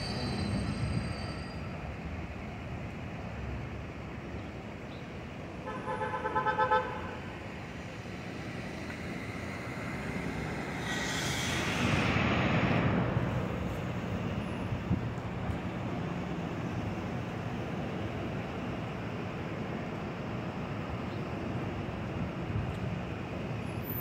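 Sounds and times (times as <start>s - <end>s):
subway train approaching: 0.0s - 24.0s.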